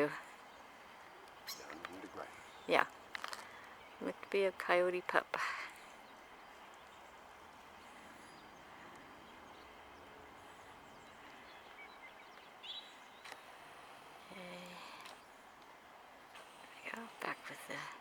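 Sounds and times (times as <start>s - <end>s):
distant bird chirps: 0.0s - 18.0s
faint hiss: 0.0s - 18.0s.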